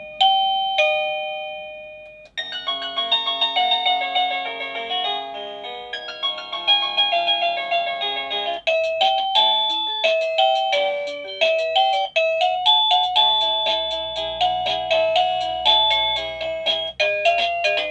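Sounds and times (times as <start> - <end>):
doorbell electronic melody chimes: 0.0 - 17.9.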